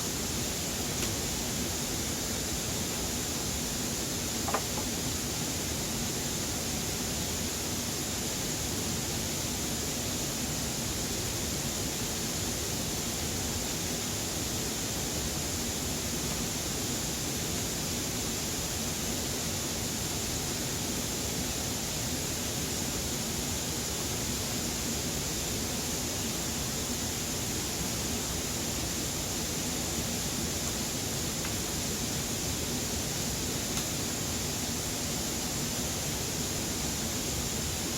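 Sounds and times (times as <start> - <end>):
high hiss: 0.0 - 37.9.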